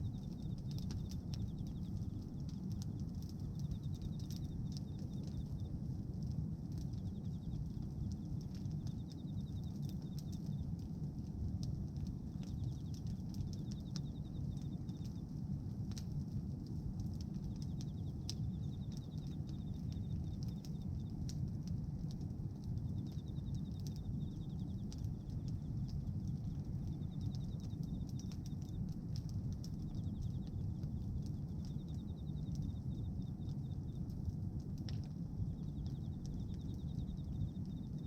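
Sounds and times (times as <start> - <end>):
bonfire rumbling: 0.0 - 38.0
fire popping and crackling: 0.0 - 38.0.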